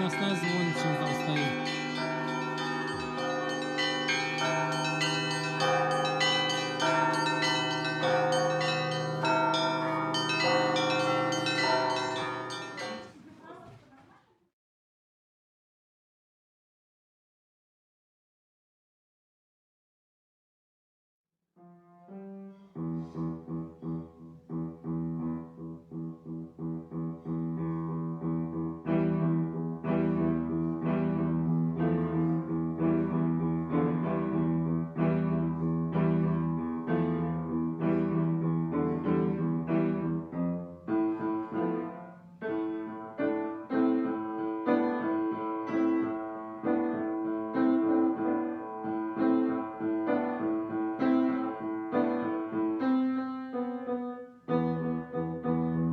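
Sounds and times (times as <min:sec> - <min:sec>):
piano music: 0:00.0 - 0:13.2, 0:21.6 - 0:55.9.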